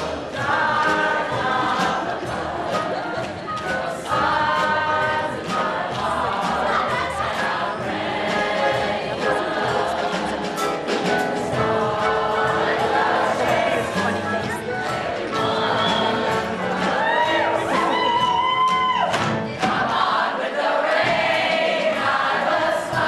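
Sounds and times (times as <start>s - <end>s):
choir singing with accompaniment: 0.0s - 23.0s.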